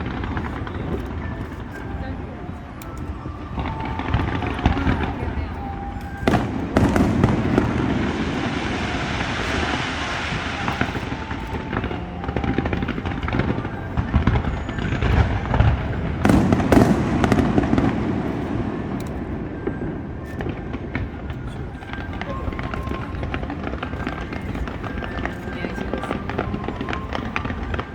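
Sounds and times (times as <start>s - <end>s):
fireworks bursting and crackling: 0.0s - 27.9s
loud firework bangs: 3.2s - 27.9s.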